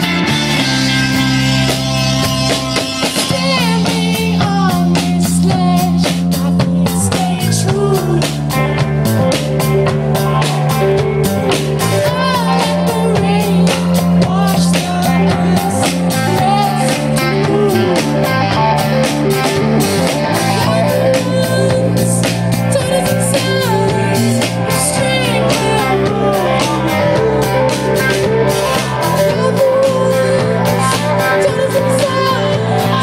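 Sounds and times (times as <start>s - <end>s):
drum kit beat: 0.0s - 33.0s
electric guitars: 0.0s - 33.0s
low bass notes: 0.0s - 33.0s.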